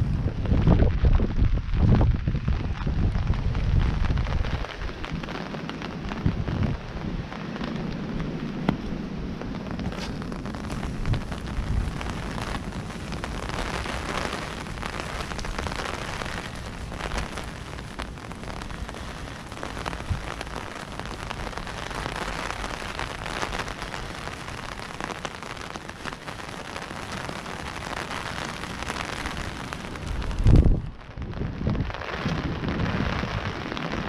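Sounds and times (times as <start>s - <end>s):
pouring rain: 0.0s - 34.0s.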